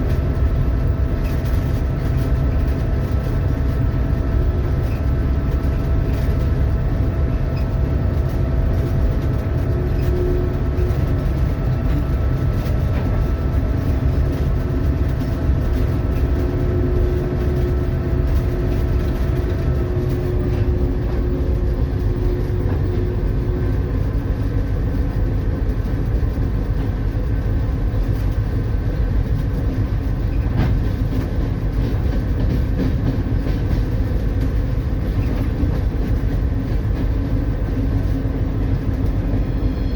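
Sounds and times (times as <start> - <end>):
locomotive engine rumbling: 0.0 - 39.9.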